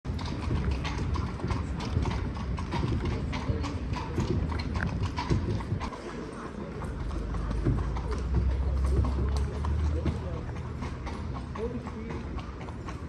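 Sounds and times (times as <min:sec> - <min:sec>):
horse hooves clip-clopping: 0:00.1 - 0:13.0.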